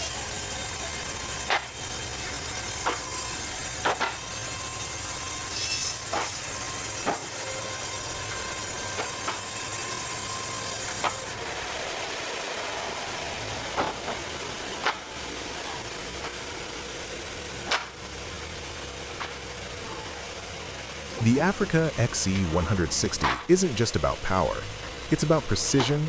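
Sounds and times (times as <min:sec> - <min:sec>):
sawmill running: 0:00.0 - 0:26.0.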